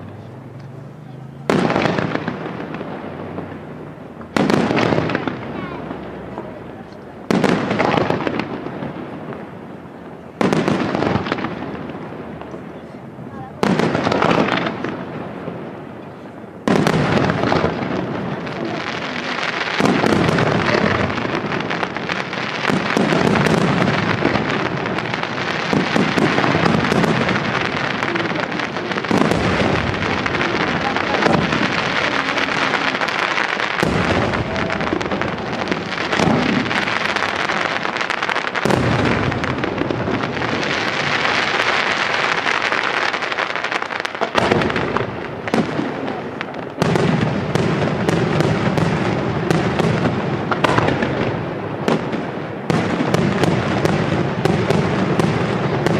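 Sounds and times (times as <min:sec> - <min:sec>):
firework crackling: 0:00.0 - 0:55.9.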